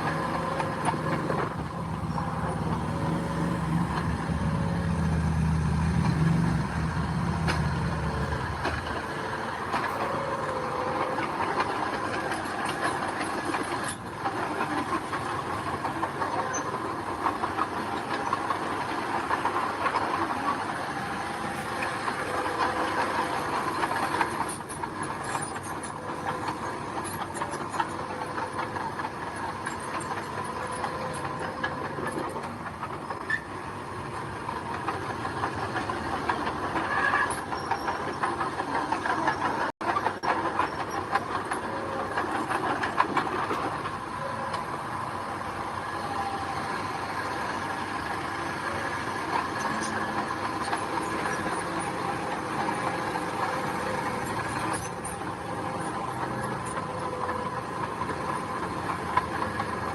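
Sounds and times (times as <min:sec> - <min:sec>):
diesel engine droning: 0:00.0 - 0:59.9
metal tracks clanking and squealing: 0:00.0 - 0:59.9.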